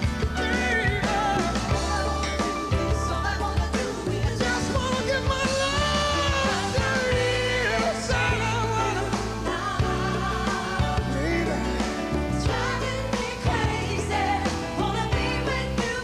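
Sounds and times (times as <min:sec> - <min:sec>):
man singing with vibrato: 0:00.0 - 0:13.9
live pop-rock band: 0:00.0 - 0:16.0.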